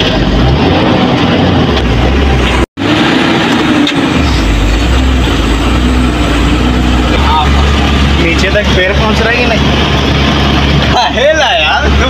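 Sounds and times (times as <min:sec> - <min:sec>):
diesel truck engine droning: 0:00.0 - 0:12.0
road noise: 0:00.0 - 0:12.0.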